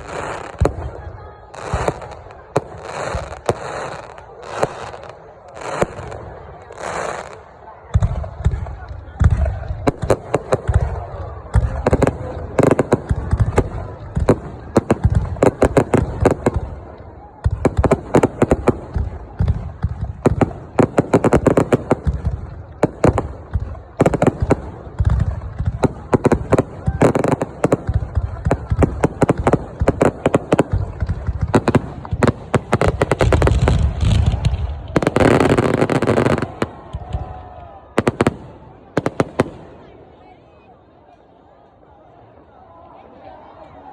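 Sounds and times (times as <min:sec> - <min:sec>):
fireworks crackling bangs: 0:00.0 - 0:40.0.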